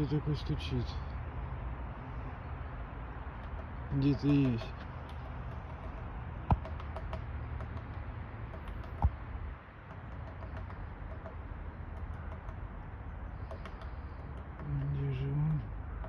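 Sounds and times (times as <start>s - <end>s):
woodpecker pecking: 3.0s - 16.0s.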